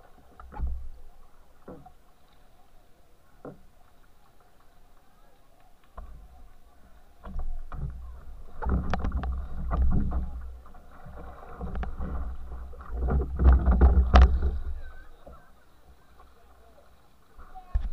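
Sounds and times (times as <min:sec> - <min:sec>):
water sloshing around canoe: 0:00.0 - 0:17.9.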